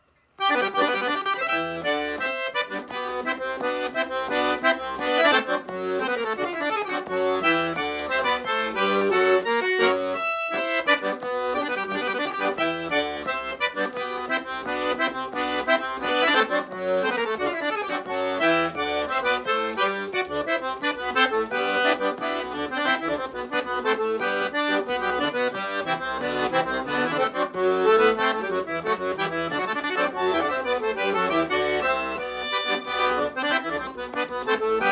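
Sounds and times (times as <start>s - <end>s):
accordion instrumental music: 0.0s - 34.9s.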